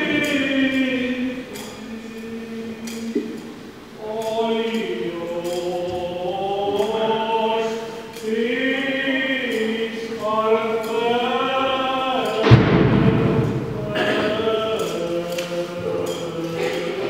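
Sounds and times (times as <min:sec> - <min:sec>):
voices singing liturgical chant: 0:00.0 - 0:17.0.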